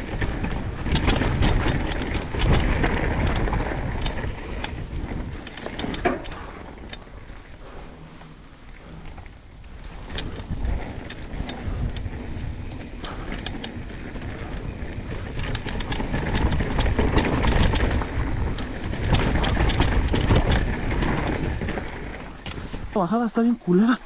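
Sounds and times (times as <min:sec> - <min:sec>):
bike rattling clicks: 0:00.0 - 0:23.5
tyres rumbling over dirt: 0:00.0 - 0:23.8.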